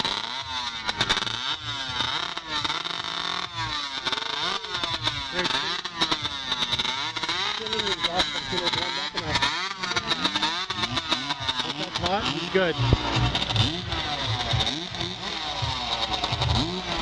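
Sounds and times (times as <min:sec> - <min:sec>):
chainsaw engines revving: 0:00.0 - 0:17.0.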